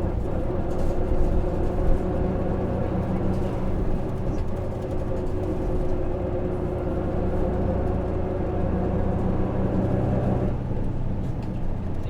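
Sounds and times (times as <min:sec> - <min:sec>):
diesel bus engine droning: 0:00.0 - 0:12.0
road noise: 0:00.0 - 0:12.0.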